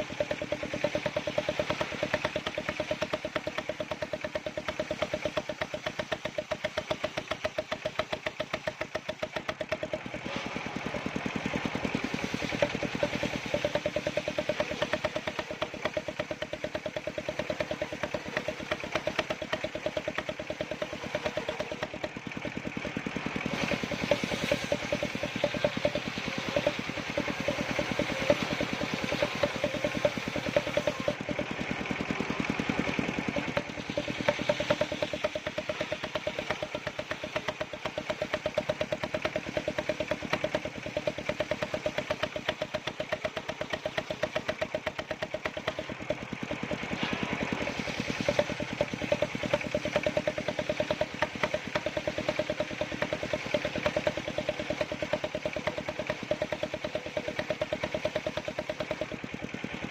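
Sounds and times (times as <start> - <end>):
small engine running saw rig: 0.0 - 59.9.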